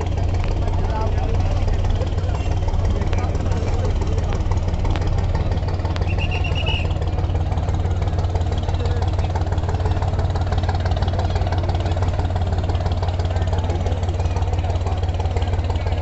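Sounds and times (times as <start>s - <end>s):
crowd voices: 0.0s - 16.0s
diesel engines droning: 0.0s - 16.0s.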